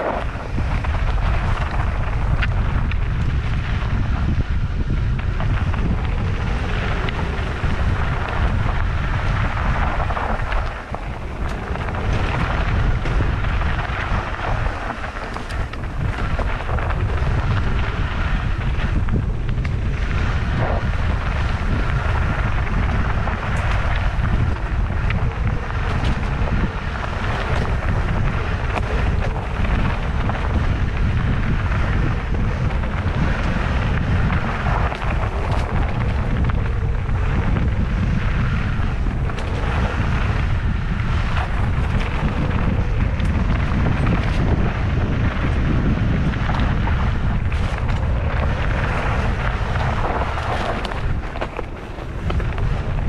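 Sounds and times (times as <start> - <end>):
dirt bike engine running: 0.0 - 53.0
wind buffeting microphone: 0.0 - 53.0.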